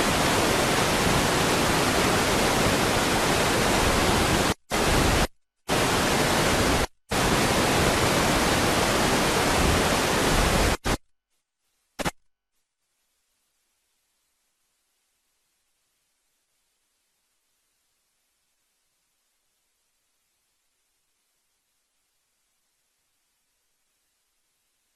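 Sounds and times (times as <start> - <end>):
steady hiss of noise: 0.0 - 24.9.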